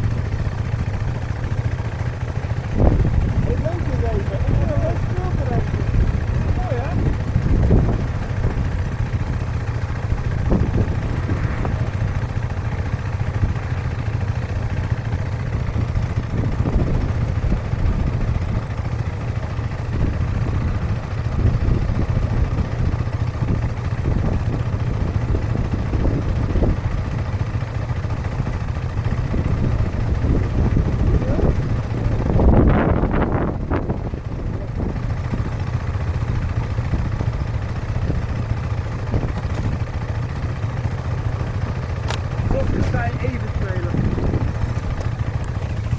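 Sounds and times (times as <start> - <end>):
distant motorcycle engine idling: 0.0 - 45.9.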